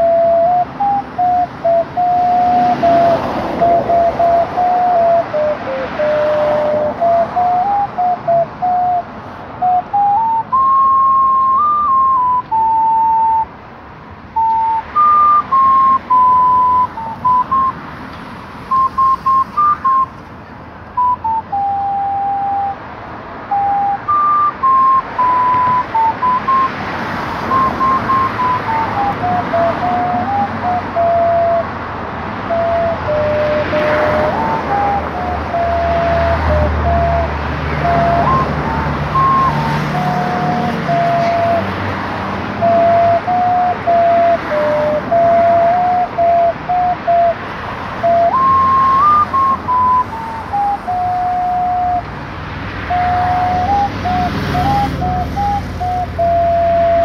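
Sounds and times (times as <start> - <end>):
small wind instrument melody: 0.0 - 13.6, 14.3 - 18.0, 18.6 - 20.3, 20.9 - 57.0
traffic rumble: 0.0 - 57.0.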